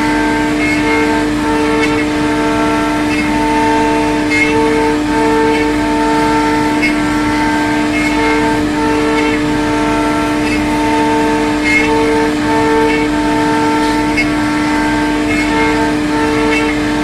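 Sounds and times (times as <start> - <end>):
high motor whine: 0.0 - 17.0
router spindle whine: 0.0 - 17.0.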